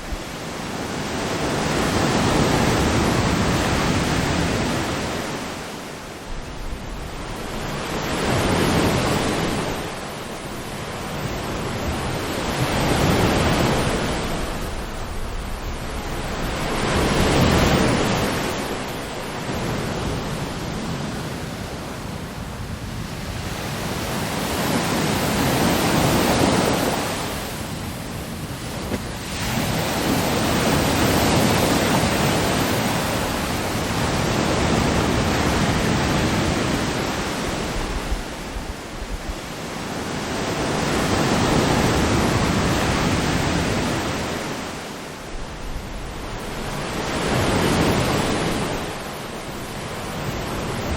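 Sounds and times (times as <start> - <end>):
ocean waves breaking: 0.0 - 50.9.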